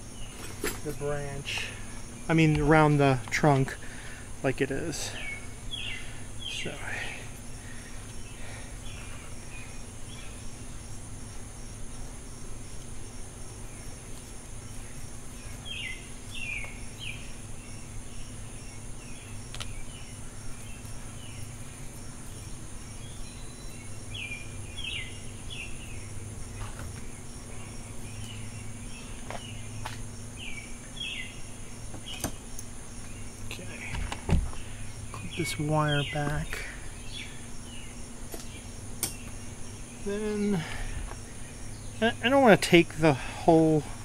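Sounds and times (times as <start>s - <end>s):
insects droning: 0.0s - 44.0s
small birds chirping: 0.0s - 44.0s.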